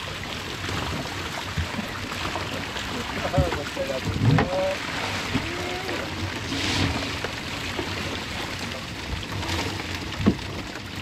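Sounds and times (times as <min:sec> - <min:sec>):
fish thrashing in water: 0:00.0 - 0:11.0.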